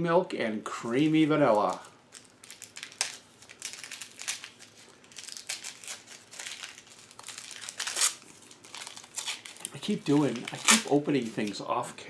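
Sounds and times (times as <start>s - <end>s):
soap wrapper crinkling: 1.5s - 11.6s.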